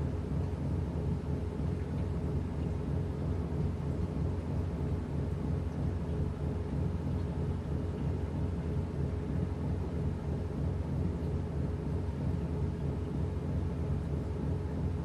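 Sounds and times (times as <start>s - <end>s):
washing machine hum and rumble: 0.0s - 15.0s.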